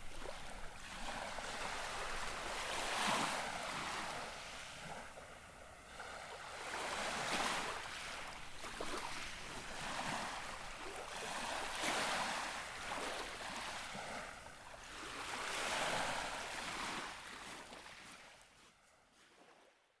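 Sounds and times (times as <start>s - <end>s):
gentle waves lapping on shore: 0.0s - 20.0s.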